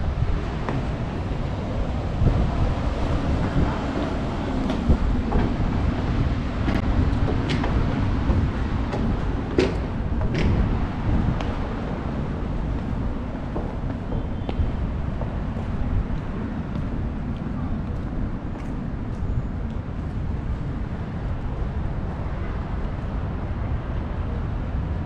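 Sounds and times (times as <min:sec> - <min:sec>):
distant traffic: 0:00.0 - 0:25.0
wind: 0:00.0 - 0:25.0.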